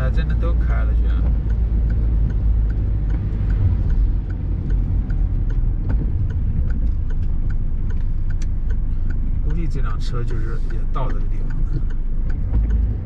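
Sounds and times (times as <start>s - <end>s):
car road and engine rumble: 0.0s - 13.0s
light regular ticking: 0.0s - 13.0s.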